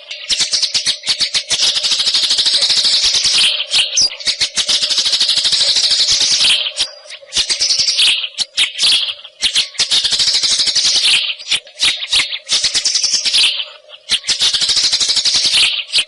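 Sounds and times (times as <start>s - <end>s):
bird singing rattling chatter: 0.0s - 16.0s
faint steady hum: 0.0s - 16.0s.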